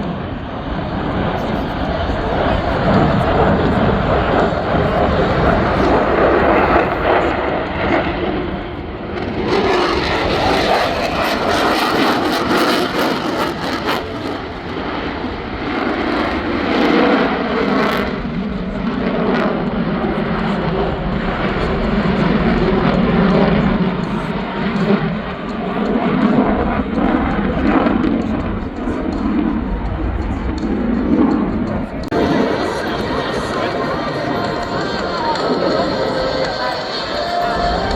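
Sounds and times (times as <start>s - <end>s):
airplane engine overhead: 0.0s - 37.9s.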